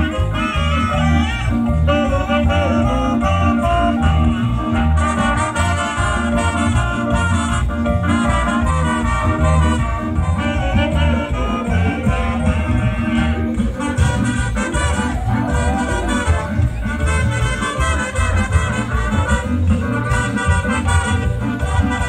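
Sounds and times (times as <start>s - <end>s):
dance orchestra with brass: 0.0s - 22.0s
steady bass beat: 0.0s - 22.0s.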